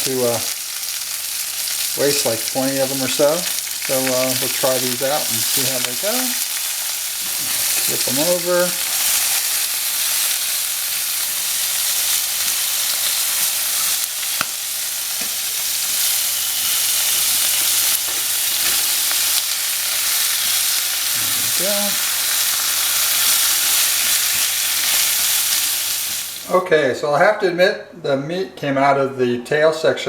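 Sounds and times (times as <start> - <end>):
food sizzling in hot oil: 0.0 - 26.6.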